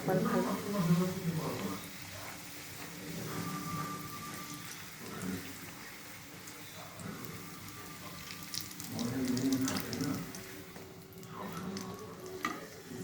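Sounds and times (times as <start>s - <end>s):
food frying in hot oil: 0.0s - 13.0s.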